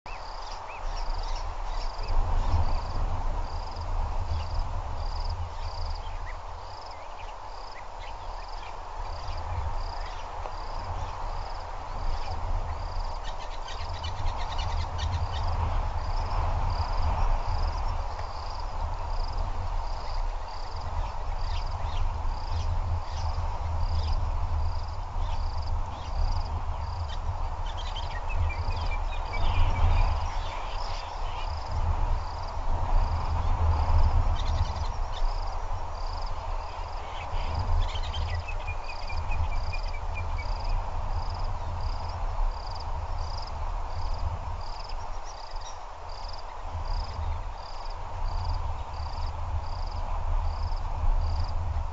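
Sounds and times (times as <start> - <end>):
insects chirping: 0.1 - 51.9.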